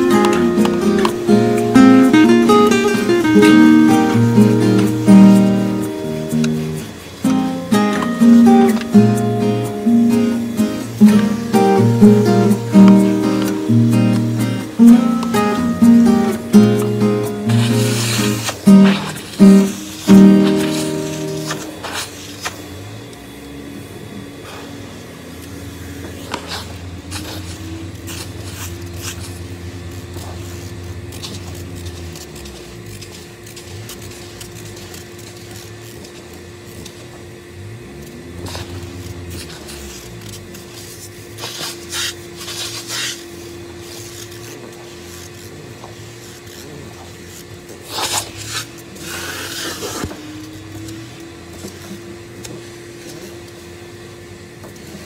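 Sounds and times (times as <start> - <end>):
extraction wand rasping over fabric: 0.0 - 22.7, 25.8 - 37.0, 37.8 - 53.9
vacuum motor hum: 0.0 - 55.0.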